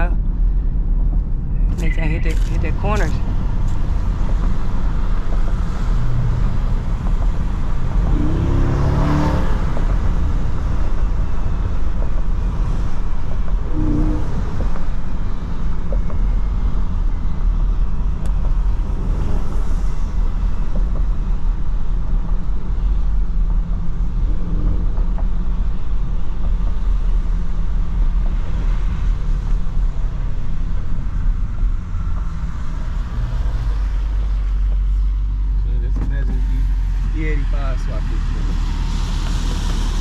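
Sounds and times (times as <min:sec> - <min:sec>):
car engine inside cabin: 0:00.0 - 0:40.0
tyres on wet road: 0:01.2 - 0:40.0.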